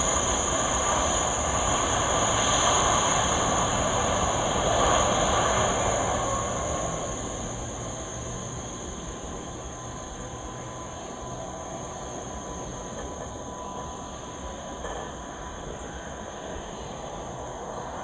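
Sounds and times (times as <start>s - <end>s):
jet engine rumble: 0.0s - 18.0s.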